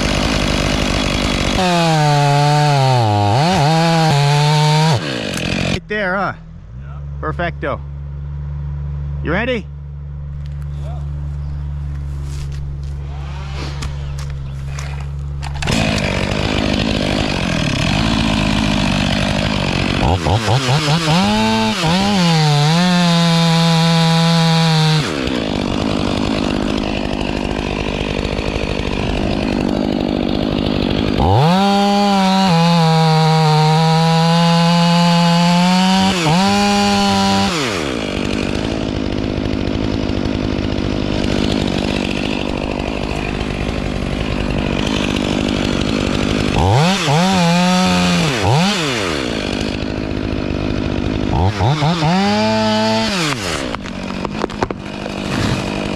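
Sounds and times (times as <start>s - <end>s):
chainsaw revving: 0.0s - 5.9s, 12.8s - 55.9s.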